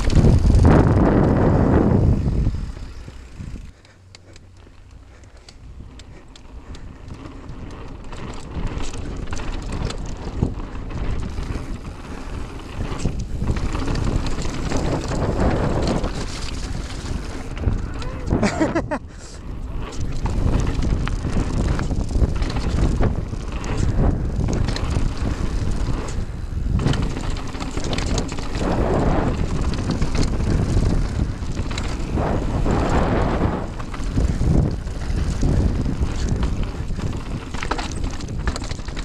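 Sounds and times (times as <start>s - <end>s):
bike clicks and rattles: 0.0s - 39.0s
wind buffeting microphone: 0.0s - 39.0s.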